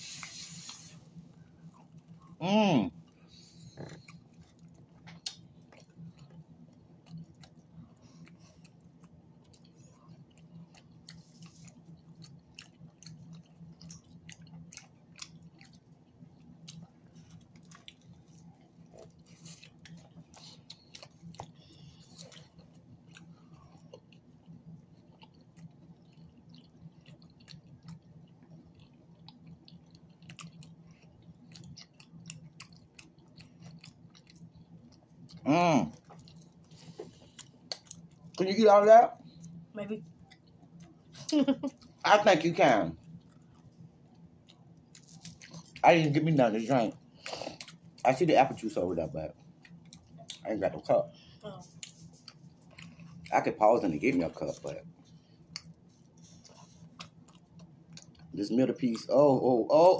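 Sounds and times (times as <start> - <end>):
close-up chewing: 3.0 - 42.0, 43.0 - 48.7, 49.3 - 59.1.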